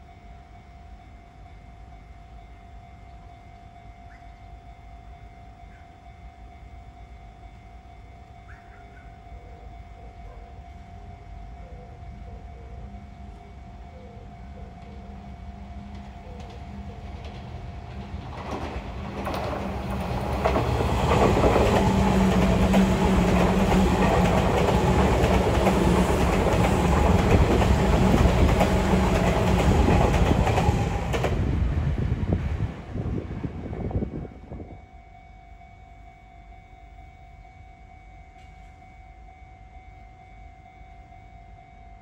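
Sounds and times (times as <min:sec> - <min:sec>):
electric train passing: 0:00.0 - 0:42.0.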